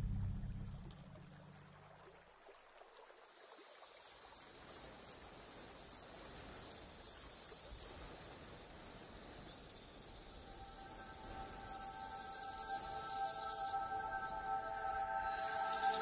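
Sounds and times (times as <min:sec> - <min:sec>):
insects trilling: 0:03.1 - 0:16.0.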